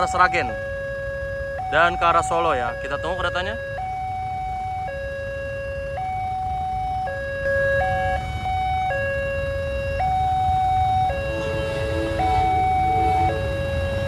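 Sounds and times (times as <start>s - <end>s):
two-tone crossing alarm: 0.0s - 14.0s.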